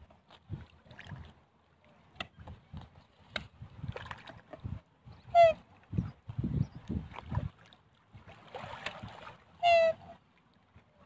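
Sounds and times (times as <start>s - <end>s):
water and handling noise: 0.0s - 11.0s.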